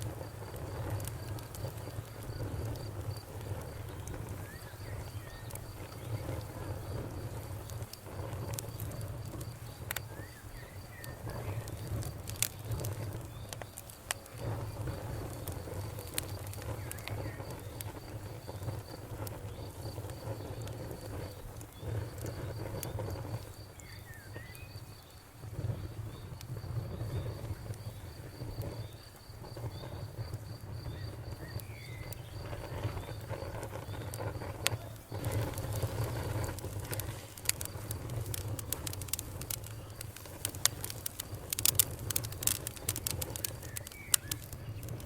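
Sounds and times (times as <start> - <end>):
campfire crackling: 0.0 - 45.0
sharp fire pops: 0.0 - 45.0
insect chirping: 0.2 - 45.0.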